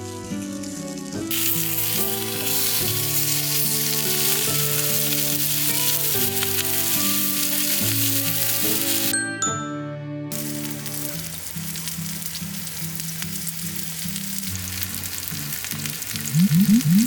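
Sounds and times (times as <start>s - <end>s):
food sizzling in a pan: 0.0s - 9.2s, 10.3s - 17.0s
background piano music: 0.0s - 16.7s.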